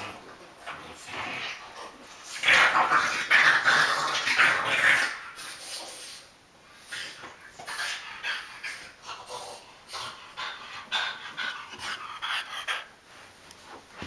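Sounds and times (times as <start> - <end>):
dogs play-wrestling and vocalizing: 0.0 - 14.0.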